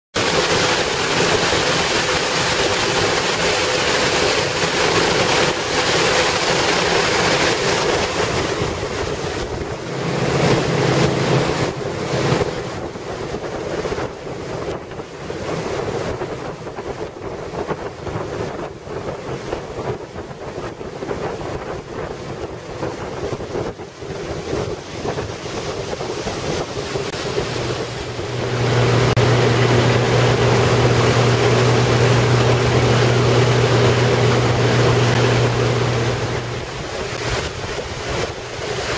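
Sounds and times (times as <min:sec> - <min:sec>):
rushing water and hull spray: 0:00.1 - 0:38.9
motorboat engine drone: 0:00.2 - 0:38.9
wind buffeting microphone: 0:00.2 - 0:38.9.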